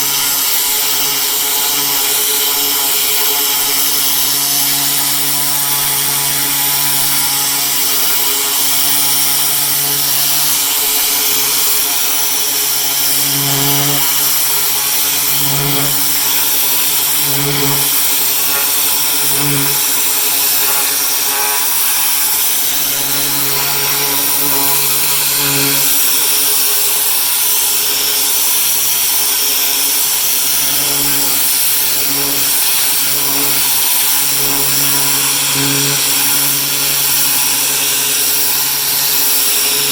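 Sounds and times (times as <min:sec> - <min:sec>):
pressure washer motor hum: 0:00.0 - 0:39.9.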